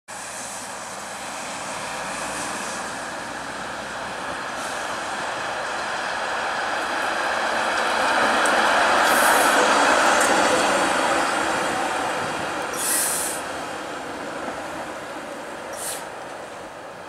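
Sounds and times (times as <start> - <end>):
streetcar running on track: 0.1 - 17.0.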